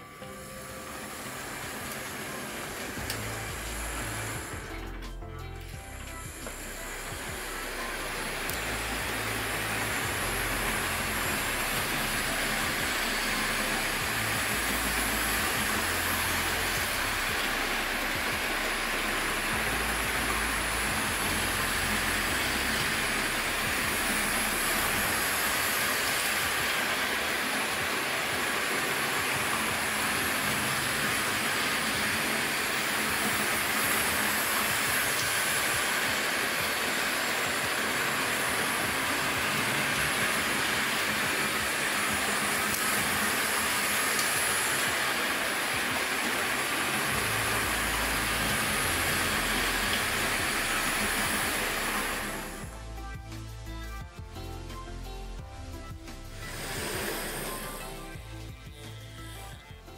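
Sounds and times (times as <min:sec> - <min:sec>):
model trains running on track: 0:00.0 - 0:05.1, 0:05.7 - 0:52.7.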